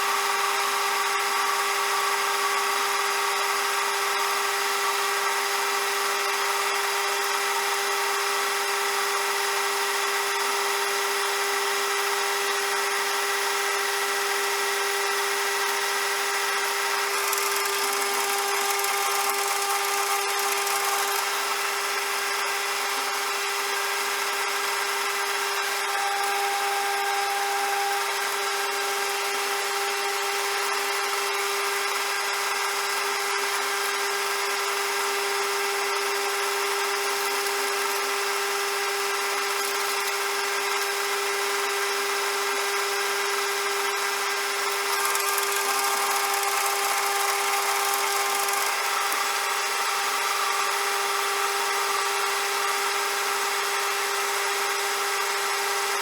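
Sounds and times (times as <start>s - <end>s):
metal lathe whining: 0.0s - 56.0s.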